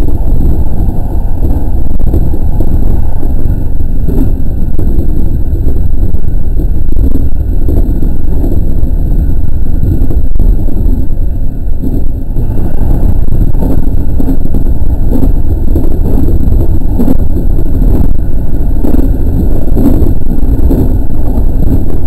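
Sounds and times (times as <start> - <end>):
electric train low rumble: 0.0 - 22.0.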